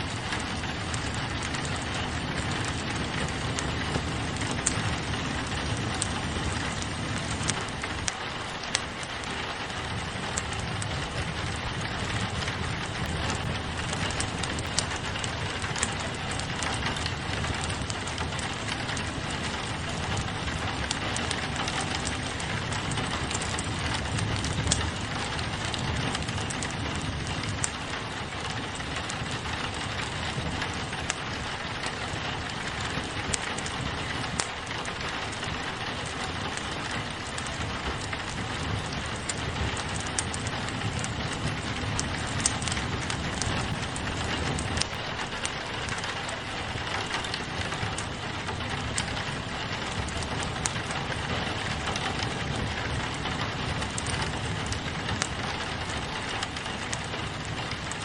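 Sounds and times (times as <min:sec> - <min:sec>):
rain on a window: 0:00.0 - 0:58.0
wood fire crackling: 0:00.0 - 0:58.0.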